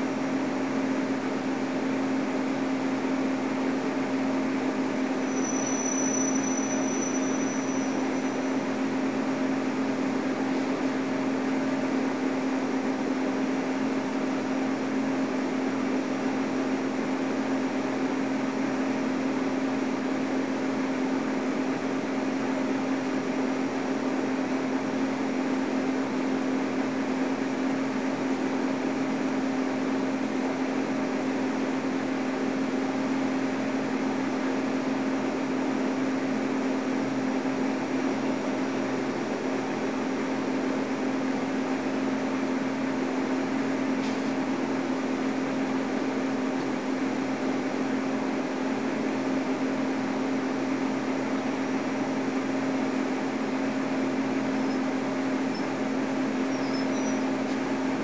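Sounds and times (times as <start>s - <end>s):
diesel locomotive engine droning: 0.0s - 58.0s.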